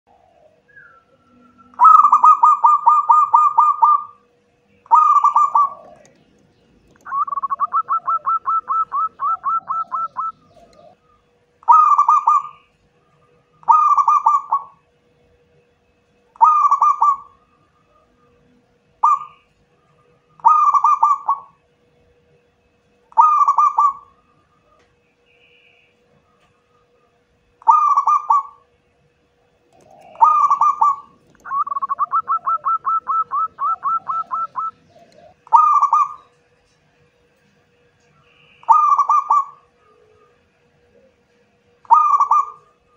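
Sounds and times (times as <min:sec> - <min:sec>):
dove cooing: 0:00.1 - 0:14.9, 0:16.4 - 0:21.7, 0:23.1 - 0:24.9, 0:26.1 - 0:28.7, 0:29.6 - 0:36.4, 0:38.1 - 0:42.9.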